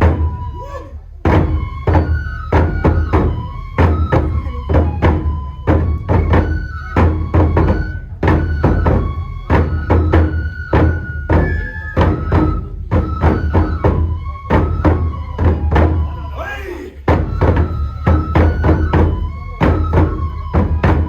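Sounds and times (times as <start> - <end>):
drum in quick uneven rhythm: 0.0 - 16.3, 17.1 - 21.0
high flute melody: 0.0 - 21.0.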